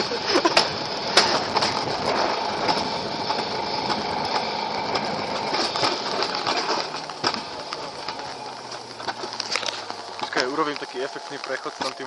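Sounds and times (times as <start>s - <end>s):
sled wheels rattling on rails: 0.0s - 12.0s.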